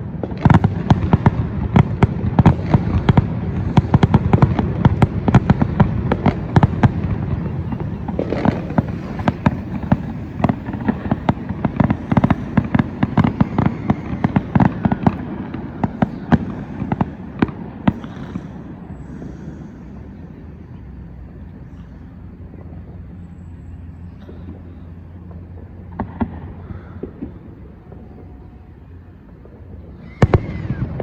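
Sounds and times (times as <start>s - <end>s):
fireworks popping and banging: 0.0s - 20.1s, 24.0s - 28.4s, 29.1s - 31.0s
low rumble: 1.1s - 30.0s.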